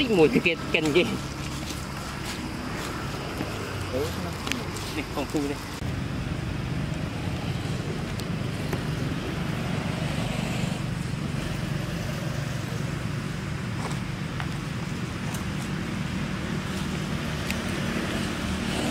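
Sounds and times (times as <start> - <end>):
steady low rumbling: 0.0 - 18.9.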